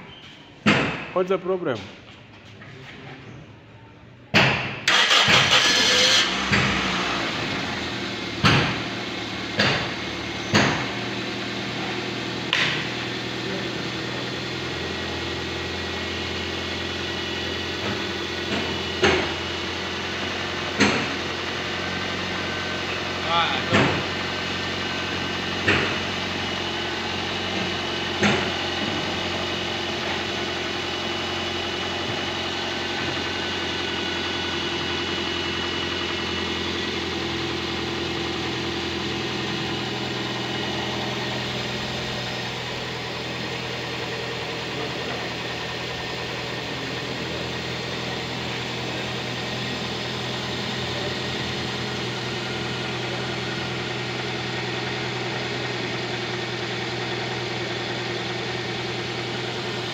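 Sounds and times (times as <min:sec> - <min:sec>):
car engine idling: 0:04.8 - 0:59.9.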